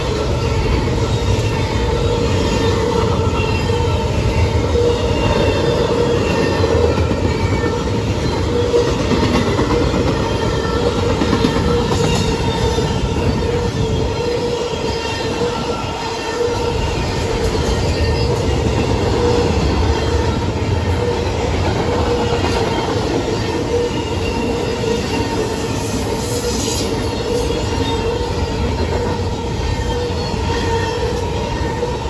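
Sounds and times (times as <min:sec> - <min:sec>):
freight train wheels rumbling: 0:00.0 - 0:32.0.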